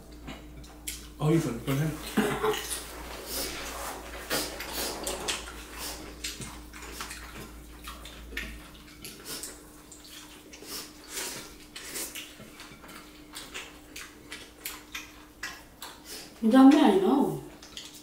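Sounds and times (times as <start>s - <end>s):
faint steady hum: 0.0s - 18.0s
fingers mixing food on plates: 0.0s - 18.0s
mouths chewing wetly: 2.0s - 16.9s, 17.5s - 18.0s.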